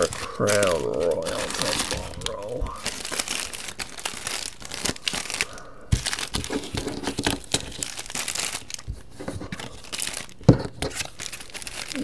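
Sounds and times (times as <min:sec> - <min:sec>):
packaging wrappers crinkling: 0:00.0 - 0:12.0.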